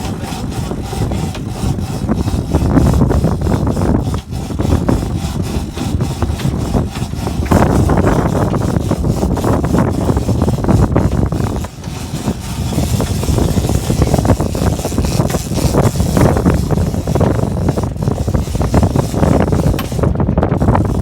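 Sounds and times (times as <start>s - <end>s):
fishing boat engine noise: 0.0s - 21.0s
wind buffeting microphone: 0.0s - 21.0s.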